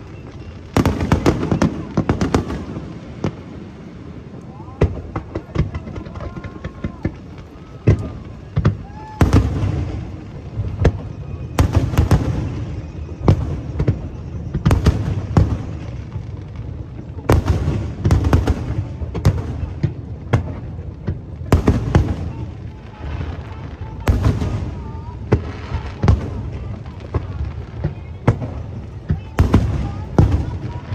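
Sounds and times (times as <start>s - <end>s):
crackling firework trails: 0.0s - 30.9s
fireworks bursting with sharp bangs: 0.0s - 30.9s.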